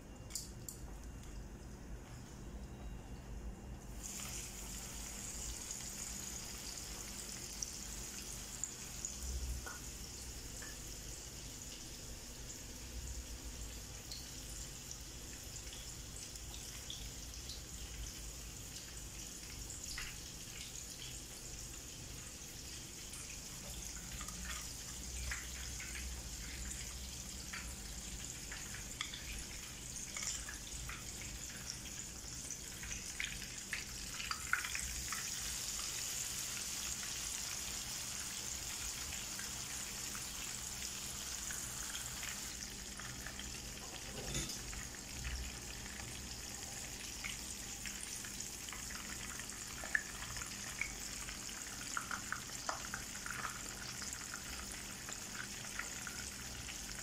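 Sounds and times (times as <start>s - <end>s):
oil sizzling in frying pan: 3.9s - 57.0s.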